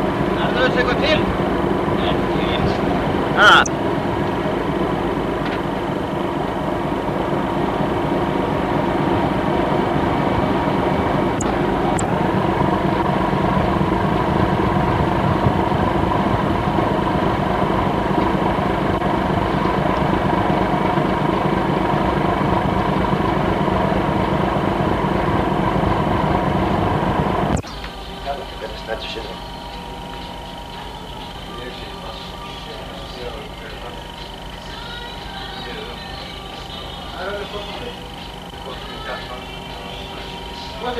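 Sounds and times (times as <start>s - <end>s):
ship engine drone: 0.0s - 40.9s.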